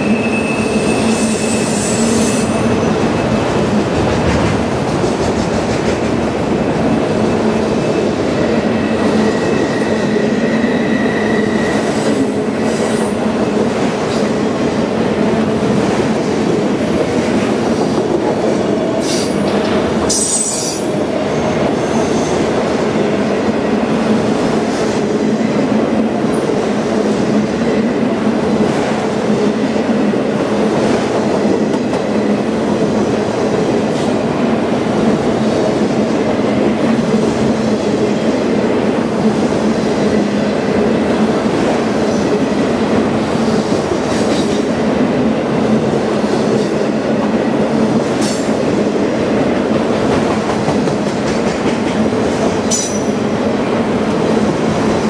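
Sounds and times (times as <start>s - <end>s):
train clattering over rails: 0.0s - 55.0s.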